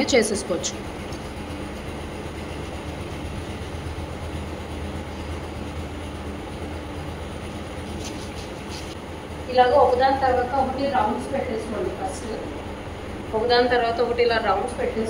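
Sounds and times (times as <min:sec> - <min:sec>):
machine hum with rushing noise: 0:00.0 - 0:15.0.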